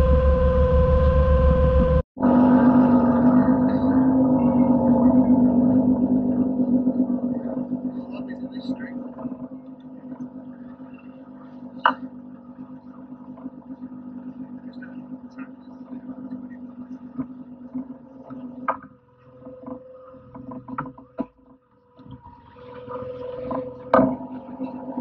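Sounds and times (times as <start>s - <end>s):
boat motor and hauler humming: 0.0s - 25.0s.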